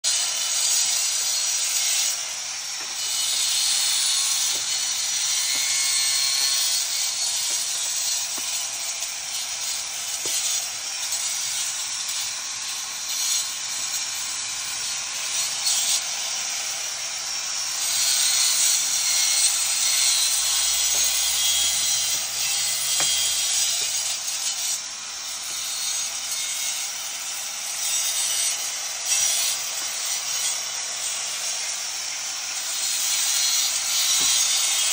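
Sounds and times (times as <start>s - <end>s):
angle grinder cutting mortar: 0.0s - 34.9s.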